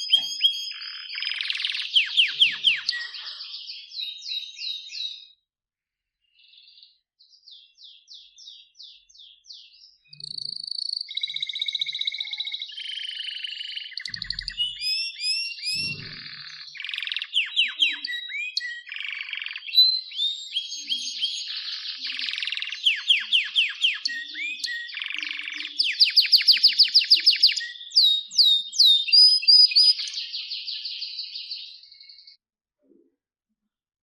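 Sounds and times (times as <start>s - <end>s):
canary singing trills: 0.0s - 5.4s, 6.2s - 32.4s.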